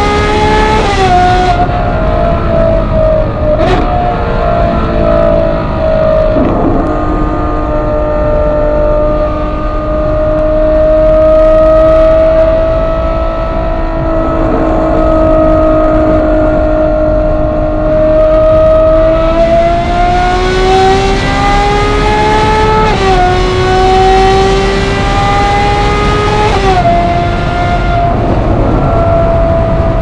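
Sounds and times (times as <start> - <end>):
car engine droning while cruising: 0.0 - 30.0.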